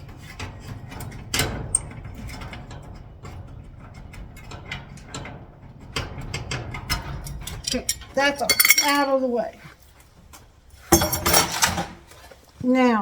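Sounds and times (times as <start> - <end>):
metal clicks and clanks: 0.0 - 12.4.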